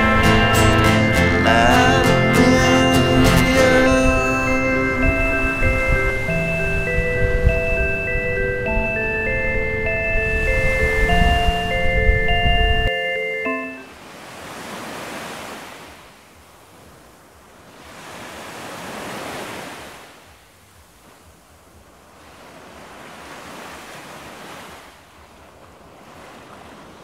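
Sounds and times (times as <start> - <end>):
ocean waves washing in: 0.0 - 27.0.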